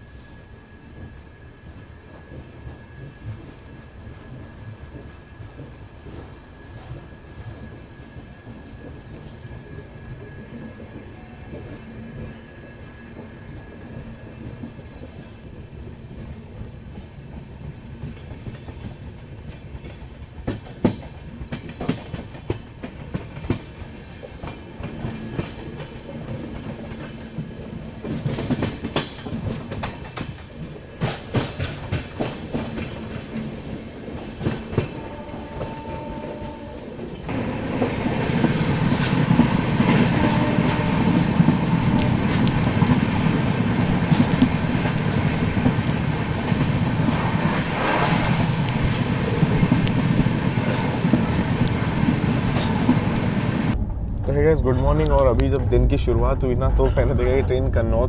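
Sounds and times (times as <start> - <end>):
train rumble: 0.0 - 58.0
train wheels clicking over rail joints: 1.7 - 55.8.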